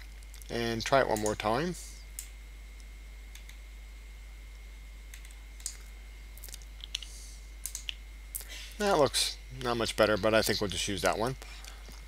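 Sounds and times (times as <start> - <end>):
faint high whine: 0.0 - 12.0
low hum: 0.0 - 12.0.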